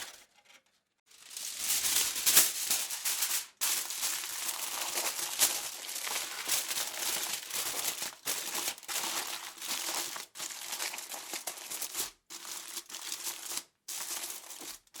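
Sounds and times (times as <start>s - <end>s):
foil crumpling: 1.1s - 15.0s.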